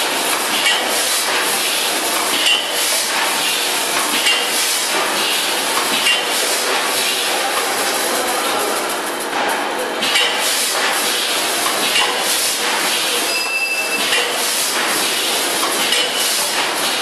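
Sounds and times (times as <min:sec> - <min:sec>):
packing machine clattering: 0:00.0 - 0:17.0.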